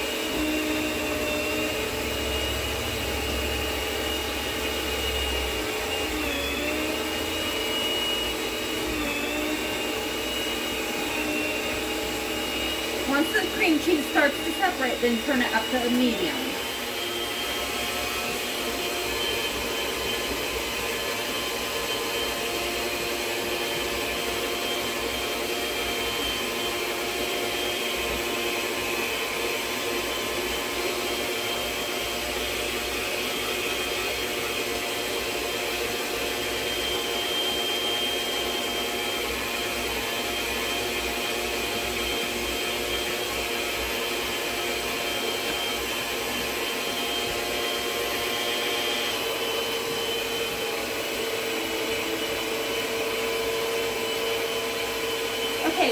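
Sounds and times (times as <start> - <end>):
stand mixer motor whirring: 0.0 - 55.9.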